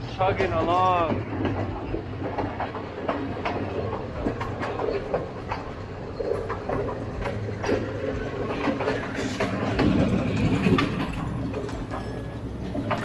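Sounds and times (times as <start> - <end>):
train carriage rumbling: 0.0 - 13.0
wheels clacking over rail joints: 0.0 - 13.0.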